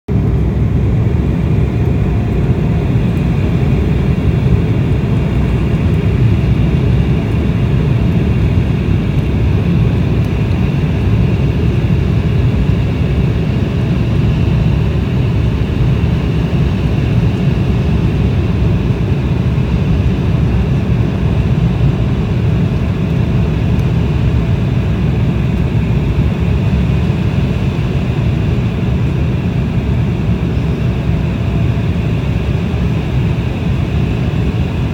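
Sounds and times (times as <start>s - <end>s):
airflow over fuselage: 0.1s - 34.9s
jet engines rumbling: 0.1s - 34.9s.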